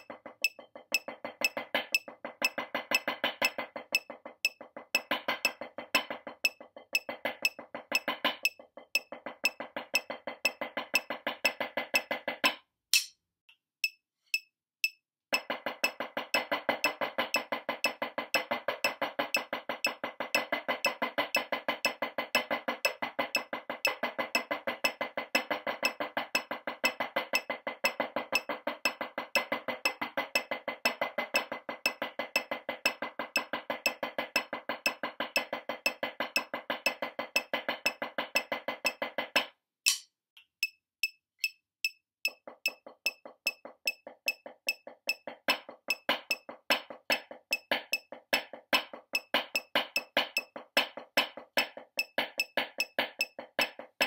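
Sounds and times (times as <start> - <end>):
drumsticks on practice pad: 0.0 - 12.1, 12.9 - 13.2, 13.8 - 29.0, 29.8 - 53.8.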